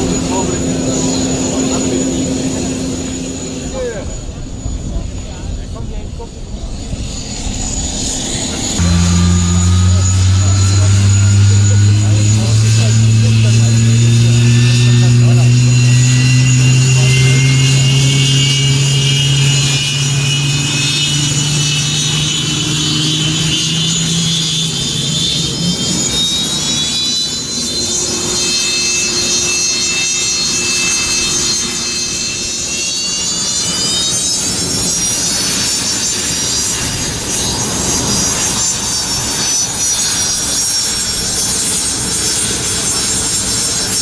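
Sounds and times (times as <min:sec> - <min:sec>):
aircraft engine drone: 0:00.0 - 0:44.0
turbine whine rising: 0:00.0 - 0:44.0.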